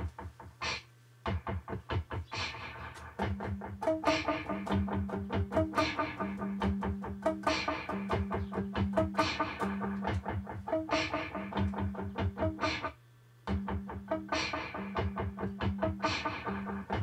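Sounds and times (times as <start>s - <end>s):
looped electric guitar: 0.0s - 17.0s.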